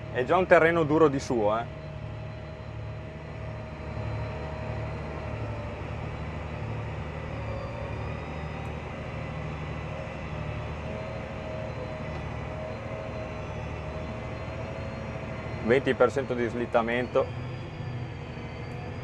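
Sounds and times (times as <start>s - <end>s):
thin steady whine: 0.0s - 19.0s
tractor diesel engine drone: 0.0s - 19.0s.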